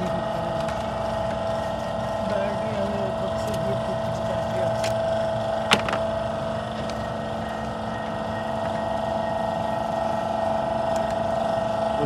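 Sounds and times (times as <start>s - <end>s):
machine hum with whine: 0.0s - 12.0s.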